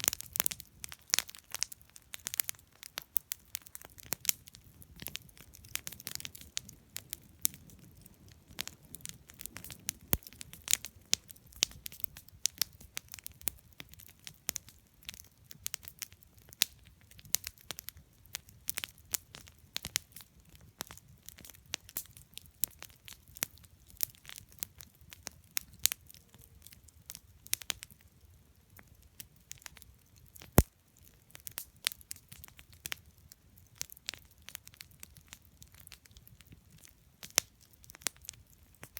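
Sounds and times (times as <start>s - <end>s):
burning wood popping: 0.0s - 28.0s, 28.8s - 38.9s
campfire crackling: 0.0s - 38.9s
low rumble of flames: 0.0s - 38.9s.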